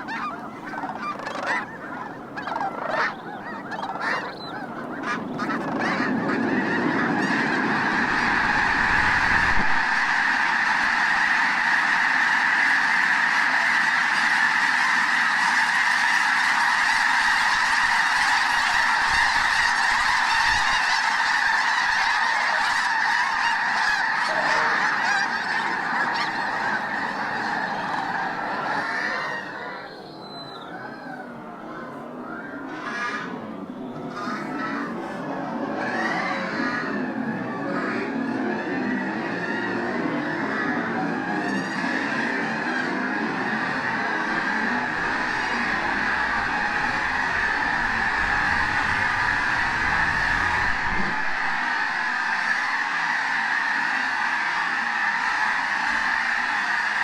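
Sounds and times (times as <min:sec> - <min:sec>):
flock of geese honking: 0:00.0 - 0:57.0.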